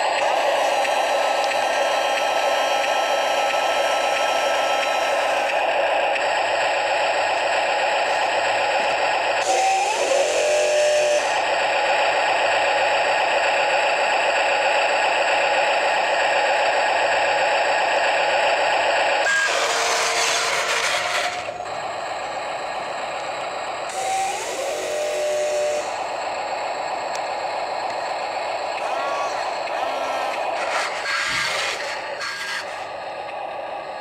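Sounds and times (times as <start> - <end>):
toy loader motor whine: 0.0 - 17.9, 18.6 - 33.4.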